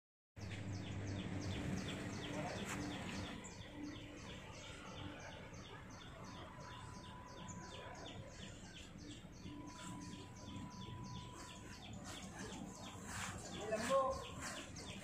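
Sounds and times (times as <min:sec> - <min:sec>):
bird high chirps: 0:00.4 - 0:15.0
outdoor background noise: 0:00.4 - 0:15.0.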